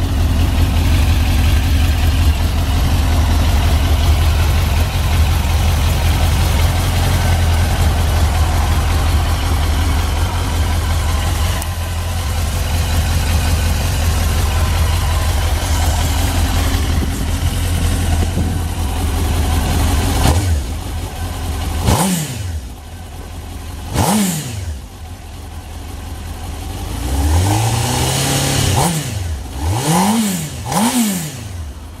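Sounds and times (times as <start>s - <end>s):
engine revving: 0.0s - 23.2s, 23.8s - 25.0s, 26.5s - 31.8s
motorcycle engine idling: 0.0s - 32.0s.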